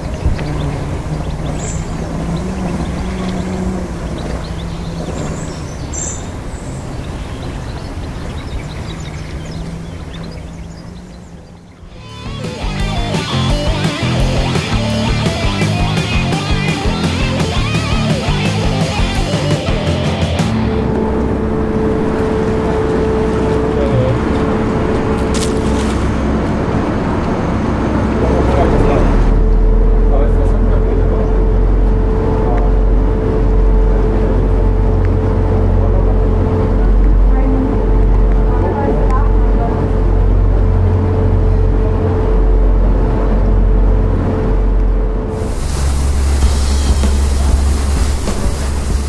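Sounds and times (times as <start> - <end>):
low motor hum: 0.0 - 49.0
outdoor background noise: 0.0 - 49.0
ship engines rumbling: 0.0 - 49.0.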